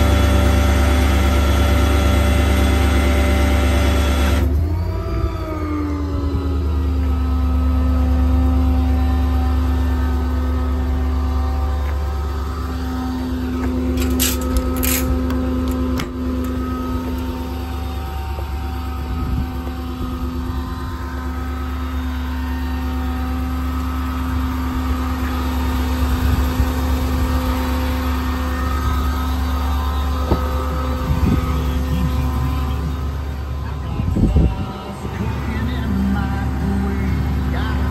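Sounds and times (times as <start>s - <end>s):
truck engine idling: 0.0s - 37.9s.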